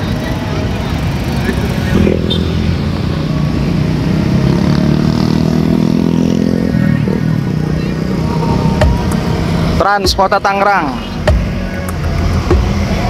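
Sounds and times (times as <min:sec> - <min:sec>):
motorcycles passing: 0:00.0 - 0:13.0.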